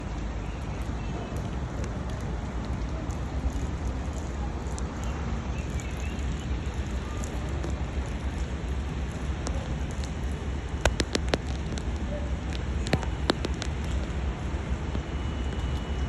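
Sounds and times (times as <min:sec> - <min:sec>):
rain falling: 0:00.0 - 0:16.0
sharp drip-like taps: 0:00.0 - 0:16.0.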